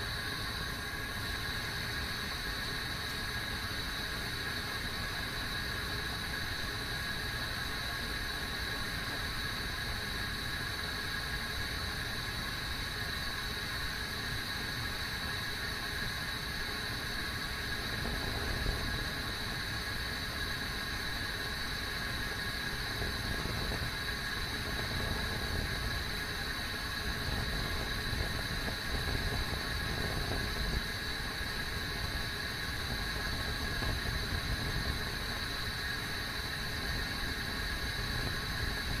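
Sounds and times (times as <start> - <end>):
faint high whine: 0.0 - 39.0
kettle rumbling hiss: 0.0 - 39.0.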